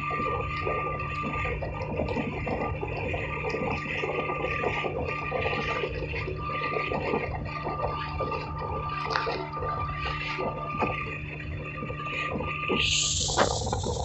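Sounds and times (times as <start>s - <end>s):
motorboat engine running: 0.0s - 14.0s
water rushing along hull: 0.0s - 14.0s.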